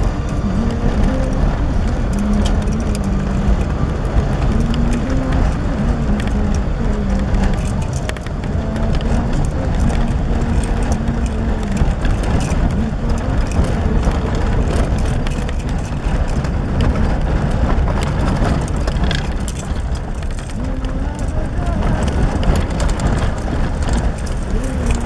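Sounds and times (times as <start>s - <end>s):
car driving on rough road: 0.0s - 25.0s
small rattles and knocks: 0.0s - 25.0s.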